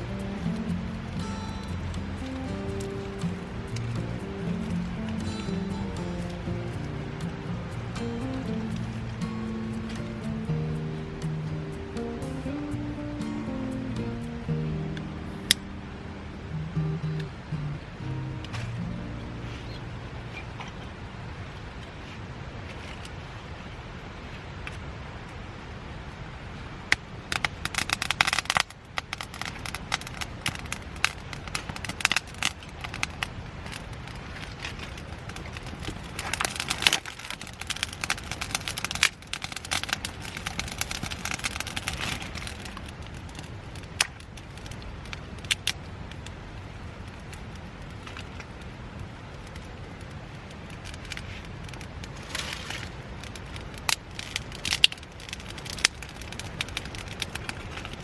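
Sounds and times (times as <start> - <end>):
wood fire crackling: 0.0 - 17.2, 26.9 - 58.0
low background noise: 0.0 - 58.0.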